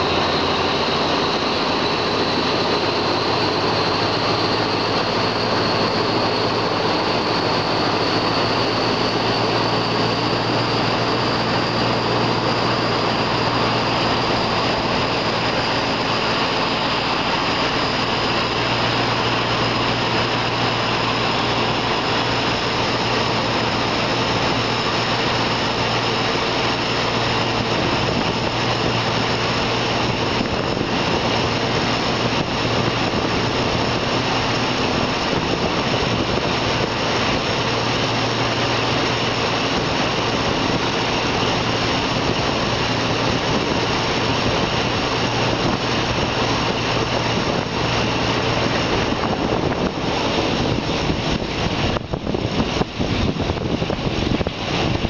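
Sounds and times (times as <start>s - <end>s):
high rising whine: 0.0s - 55.0s
train engine drone: 0.0s - 55.0s.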